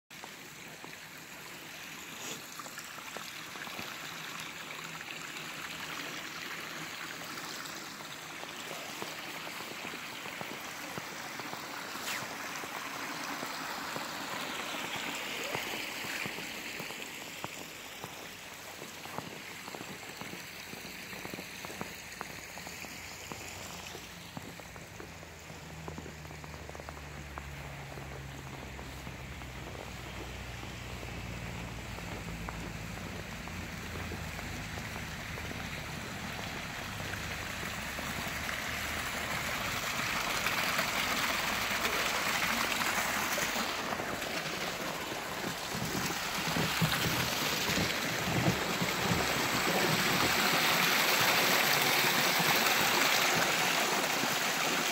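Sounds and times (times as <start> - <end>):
stream trickling and babbling: 0.1 - 54.9.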